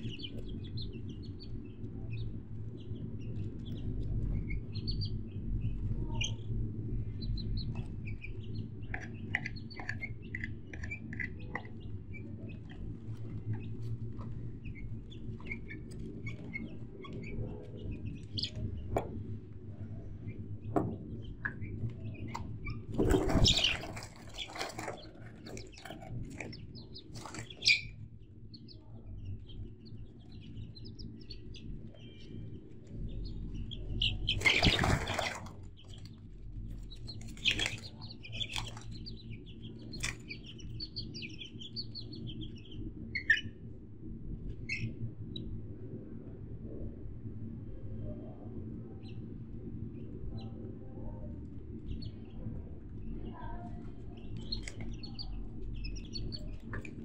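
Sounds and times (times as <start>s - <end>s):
low steady hum: 0.0s - 57.0s
small birds chirping: 0.0s - 57.0s.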